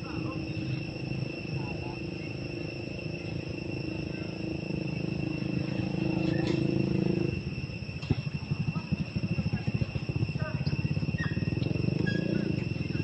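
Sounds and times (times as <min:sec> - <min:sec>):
insects droning: 0:00.0 - 0:13.0
low rumbling hum: 0:00.0 - 0:13.0.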